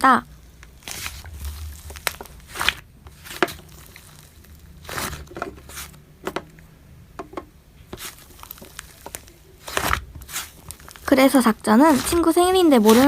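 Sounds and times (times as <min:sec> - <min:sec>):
slime crackling and popping: 0:00.5 - 0:06.7, 0:07.9 - 0:13.0.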